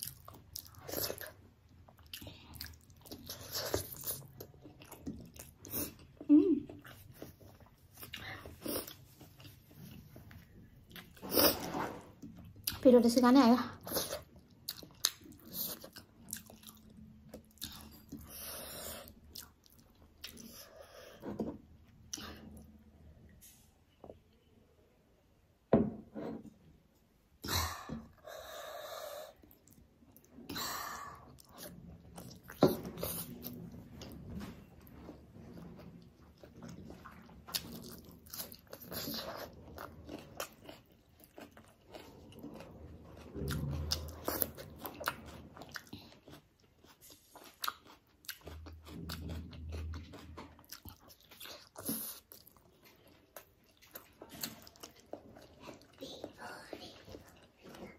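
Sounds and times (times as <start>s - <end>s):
person chewing food: 0.0s - 12.8s, 13.8s - 22.8s, 27.8s - 57.9s.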